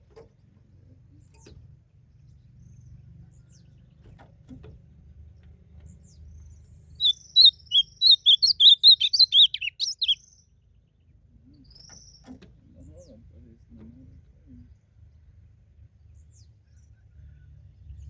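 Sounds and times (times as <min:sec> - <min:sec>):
bird warbling song: 0:00.1 - 0:18.0.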